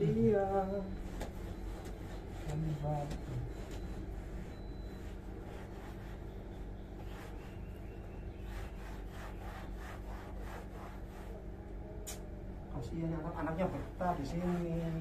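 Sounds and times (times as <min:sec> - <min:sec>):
steady low hum: 0:00.0 - 0:15.0
cloth rubbing against wall: 0:00.5 - 0:11.5, 0:13.4 - 0:15.0.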